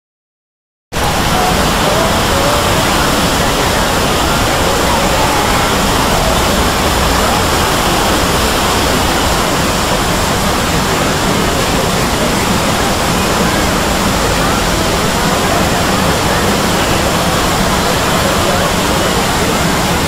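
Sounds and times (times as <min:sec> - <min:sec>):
dense wash of noise: 0:01.0 - 0:20.0
faint voices: 0:01.0 - 0:20.0.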